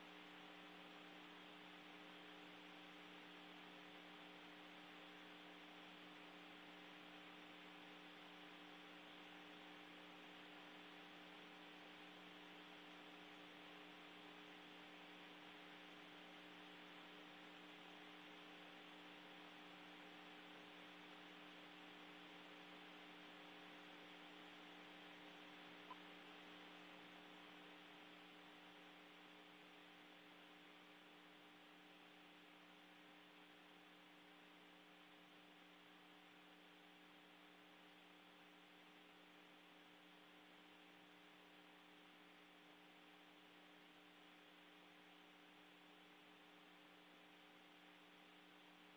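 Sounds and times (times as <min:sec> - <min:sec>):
faint hum with tones: 0:00.0 - 0:48.9.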